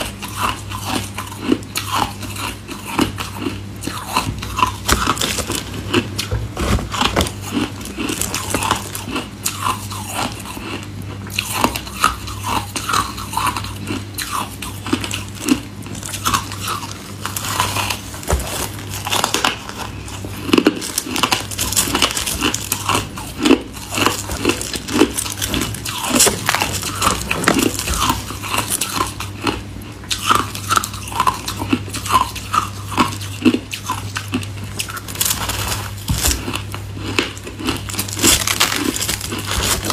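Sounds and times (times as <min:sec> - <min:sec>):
person chewing crunchy ice: 0:00.0 - 0:39.9.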